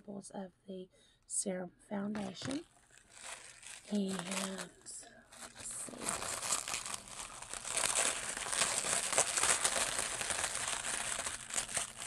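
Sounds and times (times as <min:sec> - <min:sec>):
packaging crinkling and rustling: 0:02.2 - 0:12.0.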